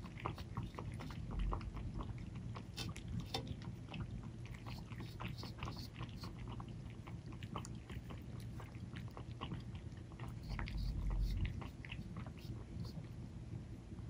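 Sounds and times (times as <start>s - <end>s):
kittens lapping milk: 0.0s - 14.0s.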